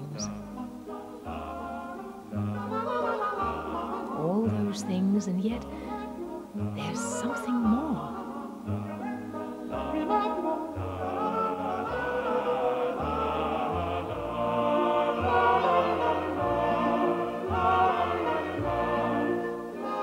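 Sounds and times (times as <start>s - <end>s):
operatic singing: 0.0s - 20.0s
orchestral music: 0.0s - 20.0s.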